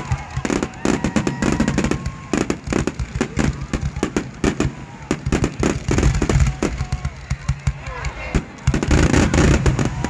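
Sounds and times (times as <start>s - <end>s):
fireworks crackling bangs: 0.0s - 10.0s.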